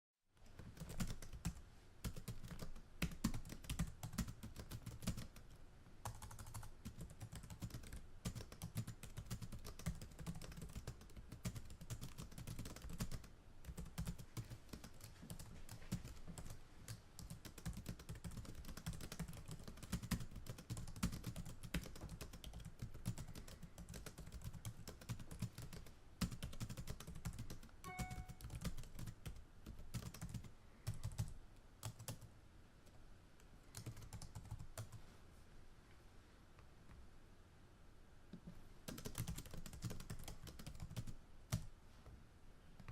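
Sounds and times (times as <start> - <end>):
typing on computer keyboard: 0.5 - 32.3, 33.7 - 35.0, 38.9 - 41.7.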